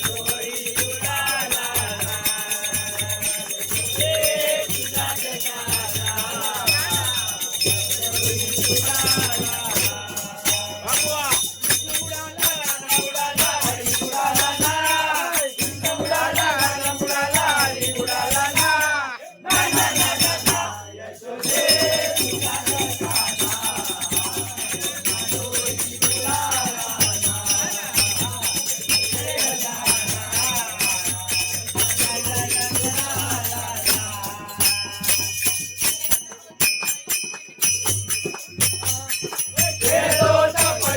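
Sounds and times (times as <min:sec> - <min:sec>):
women singing together: 0:00.0 - 0:35.2, 0:39.6 - 0:40.9
jingling hand percussion: 0:00.0 - 0:40.9.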